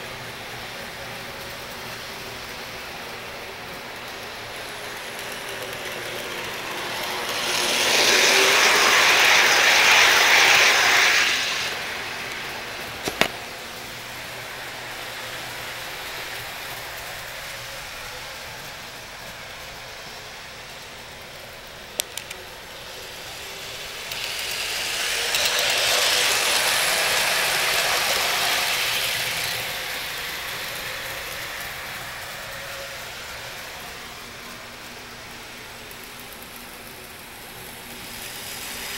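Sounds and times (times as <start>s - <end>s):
model train wheels rumbling: 0.0s - 38.9s.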